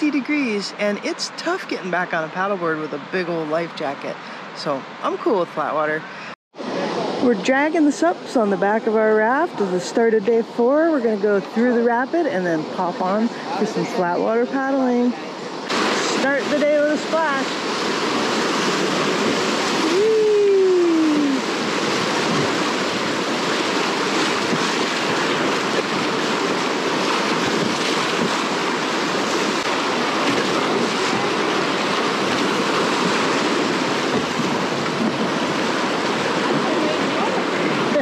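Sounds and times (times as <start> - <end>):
whitewater rushing and splashing: 0.0 - 38.0.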